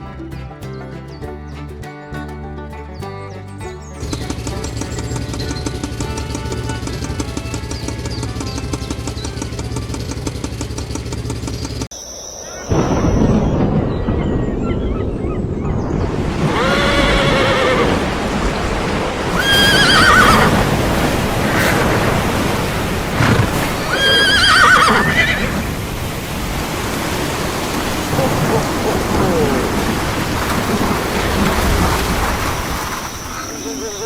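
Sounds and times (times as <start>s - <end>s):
steady rushing noise: 4.0s - 33.8s.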